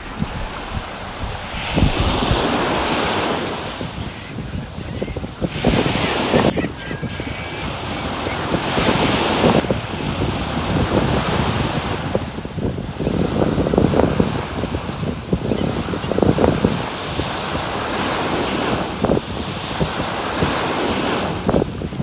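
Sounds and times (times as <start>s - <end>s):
waves washing in: 0.0s - 22.0s
wind buffeting microphone: 0.0s - 22.0s.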